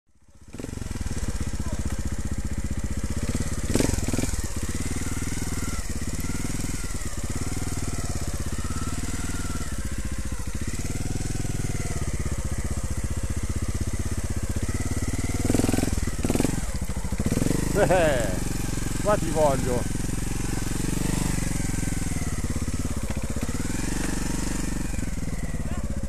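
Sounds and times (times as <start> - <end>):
motorcycle engine at low revs: 0.1 - 26.0.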